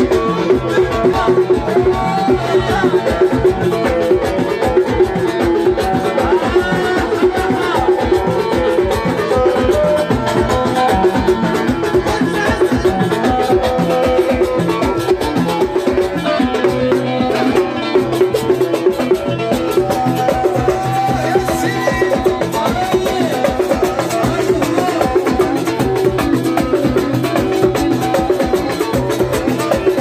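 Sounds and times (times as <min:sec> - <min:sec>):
percussion beat: 0:00.0 - 0:30.0
plucked string instruments: 0:00.0 - 0:30.0.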